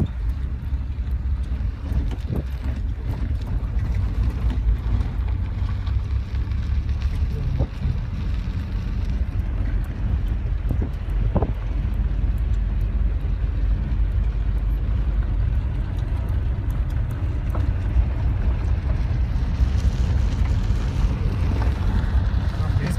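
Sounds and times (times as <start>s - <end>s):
car engine and tyres on gravel: 0.0s - 22.9s.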